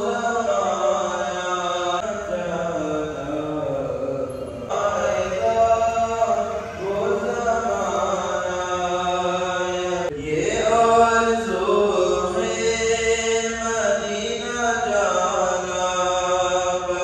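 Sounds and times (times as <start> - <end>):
person chanting melodic recitation: 0.0 - 17.0.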